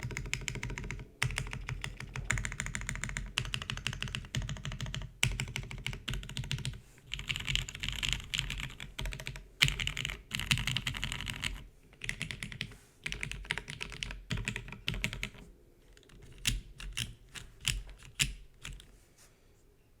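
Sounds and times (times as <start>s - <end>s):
mechanical keyboard typing: 0.0s - 18.9s.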